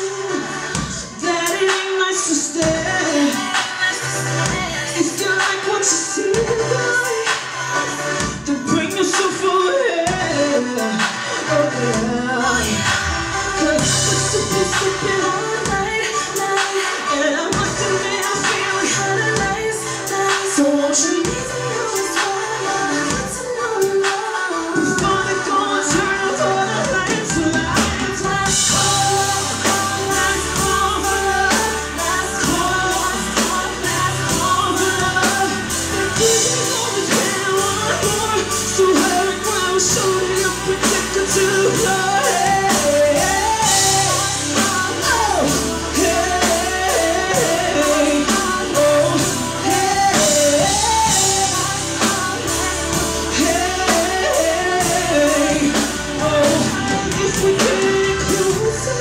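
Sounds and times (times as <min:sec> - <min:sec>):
drum kit beat: 0:00.0 - 0:59.0
pop-rock song: 0:00.0 - 0:59.0
woman singing: 0:00.0 - 0:59.0.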